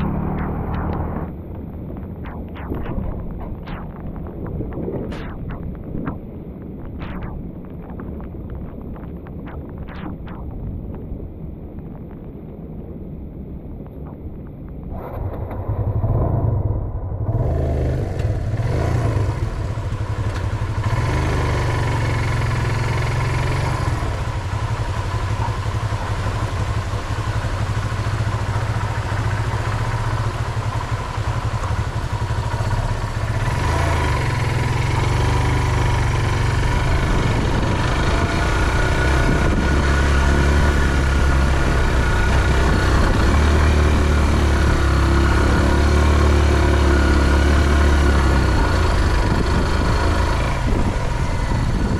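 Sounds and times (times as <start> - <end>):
motorcycle engine: 0.0 - 10.6, 15.0 - 51.9.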